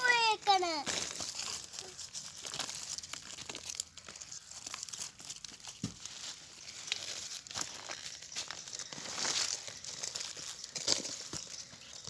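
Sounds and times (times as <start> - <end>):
soil and roots rustling and crackling: 0.0 - 12.0
roots snapping: 0.8 - 8.0, 8.9 - 11.5.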